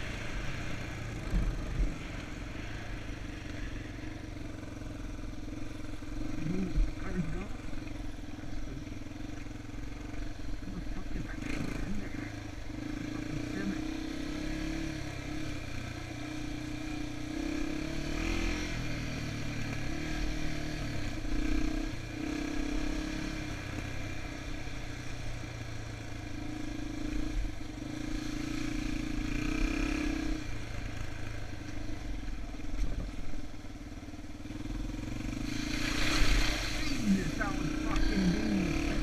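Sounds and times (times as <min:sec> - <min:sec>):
dirt bike engine revving: 0:00.0 - 0:32.3, 0:34.4 - 0:39.0.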